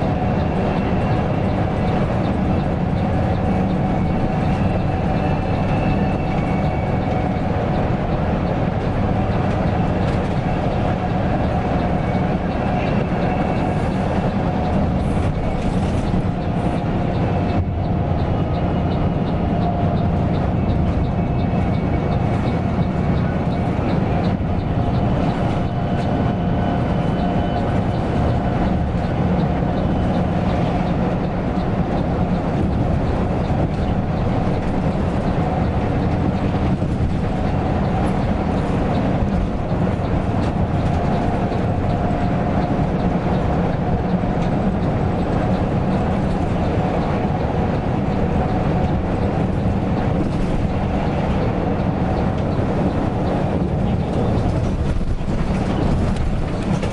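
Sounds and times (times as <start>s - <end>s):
coach engine and road drone: 0.0s - 56.9s.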